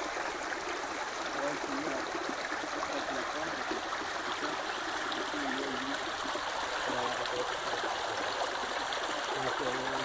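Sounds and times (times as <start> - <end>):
stream water rushing and gurgling: 0.0 - 10.0.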